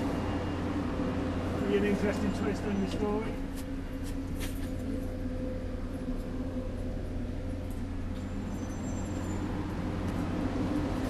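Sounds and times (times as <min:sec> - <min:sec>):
faint constant tone: 0:00.0 - 0:11.0.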